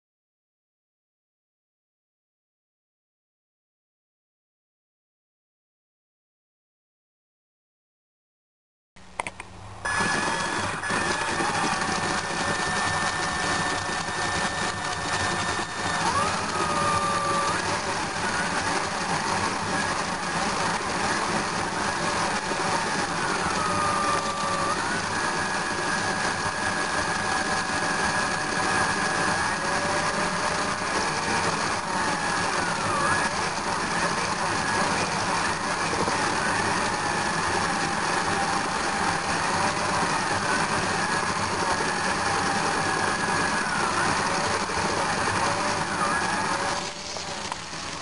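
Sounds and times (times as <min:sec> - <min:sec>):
high motor whine: 0:09.1 - 0:48.0.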